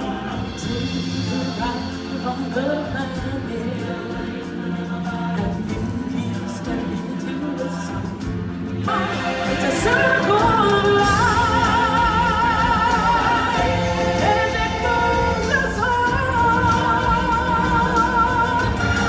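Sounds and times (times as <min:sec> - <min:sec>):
band playing: 0:00.0 - 0:19.0
singers holding notes in harmony: 0:00.0 - 0:19.0.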